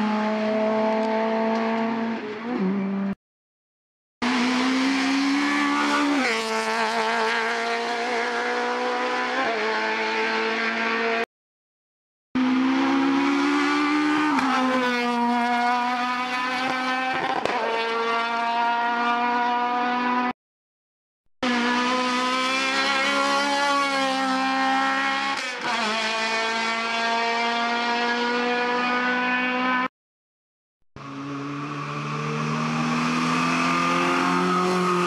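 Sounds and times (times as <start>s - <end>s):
race car engines at full throttle: 0.0s - 3.2s, 4.2s - 11.3s, 12.4s - 20.3s, 21.4s - 29.9s, 31.0s - 35.0s.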